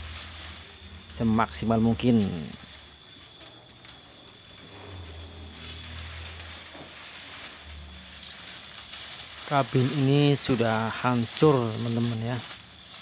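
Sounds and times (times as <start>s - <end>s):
dry leaves rustling and crackling: 0.0s - 13.0s
faint low hum: 0.0s - 13.0s.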